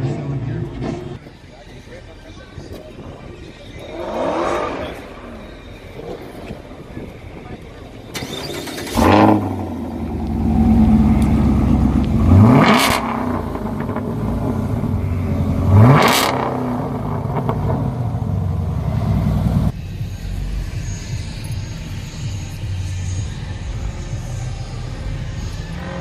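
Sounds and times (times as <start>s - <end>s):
car engine idling and revving: 2.0s - 26.0s
exhaust rush: 2.0s - 26.0s.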